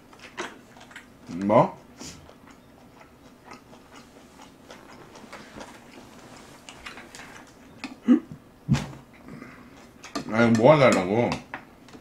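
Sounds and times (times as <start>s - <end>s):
quiet chewing: 0.0s - 11.0s.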